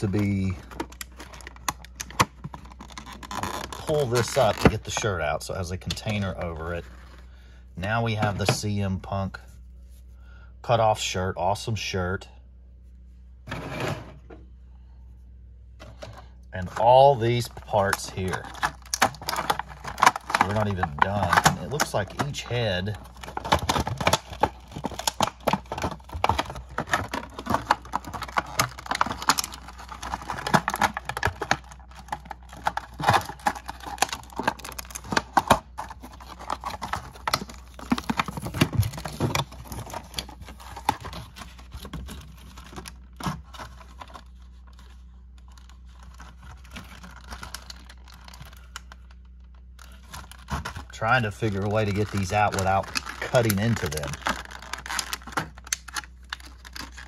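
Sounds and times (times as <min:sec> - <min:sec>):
plastic clicks and crinkles: 0:00.0 - 0:05.1, 0:15.8 - 0:57.0.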